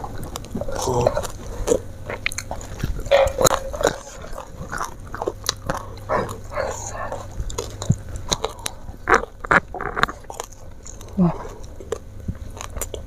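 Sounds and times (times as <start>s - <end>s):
chewing food: 0.0s - 13.0s
mouth clicks: 0.0s - 13.0s
wet lip-smacking: 0.0s - 13.0s.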